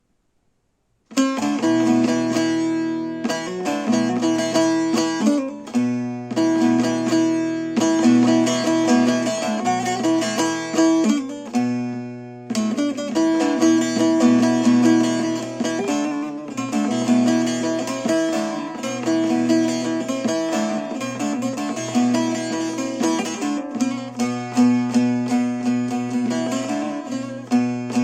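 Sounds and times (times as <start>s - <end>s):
plucked string instrument music: 1.1s - 28.0s.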